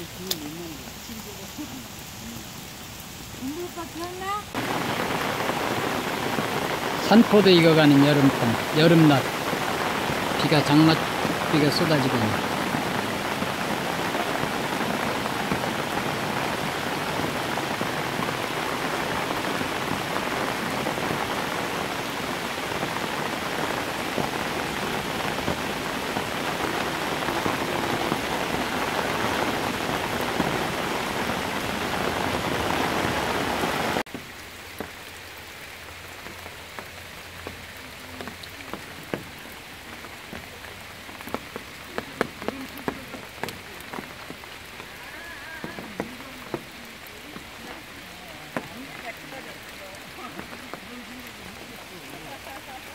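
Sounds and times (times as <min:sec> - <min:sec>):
heavy rain on leaves: 0:00.0 - 0:52.9
rain patter with single drops: 0:00.0 - 0:52.9.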